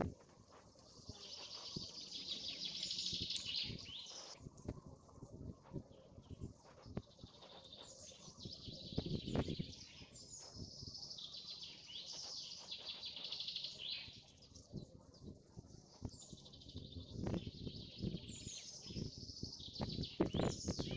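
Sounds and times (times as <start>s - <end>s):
small birds singing: 0.4s - 4.4s, 5.6s - 20.9s.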